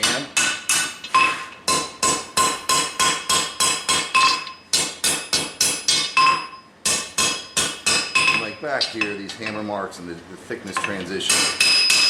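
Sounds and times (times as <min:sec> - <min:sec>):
hammer striking steel on anvil: 0:00.0 - 0:09.6, 0:10.8 - 0:12.0.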